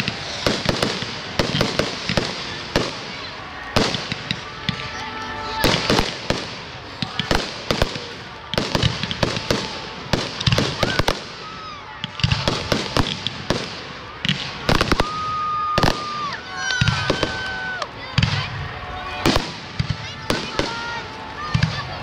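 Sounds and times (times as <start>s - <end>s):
firework whistling tones: 0.0s - 17.8s
fireworks bangs and crackling: 0.0s - 22.0s.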